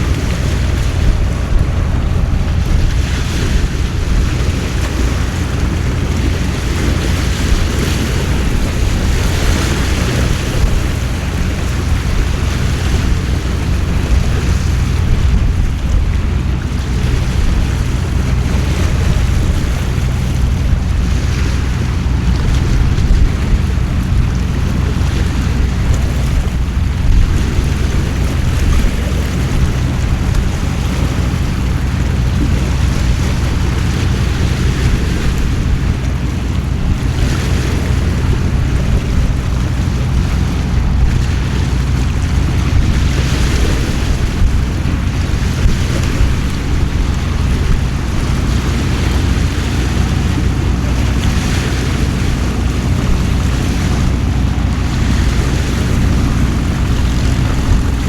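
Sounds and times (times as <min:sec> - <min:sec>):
gusting wind: 0:00.0 - 0:58.0
steady low rumble: 0:00.0 - 0:58.0.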